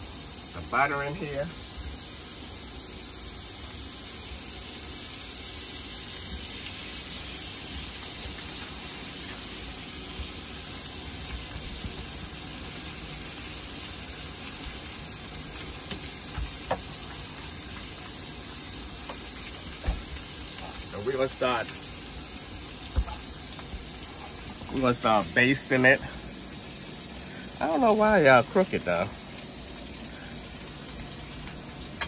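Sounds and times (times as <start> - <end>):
steak and butter sizzling in a pan: 0.0 - 32.0.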